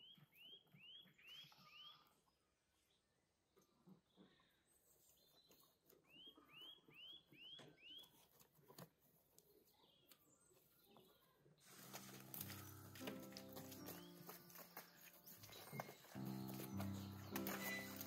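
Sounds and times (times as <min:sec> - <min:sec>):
small bird chirping: 0:00.0 - 0:08.3, 0:09.4 - 0:18.0.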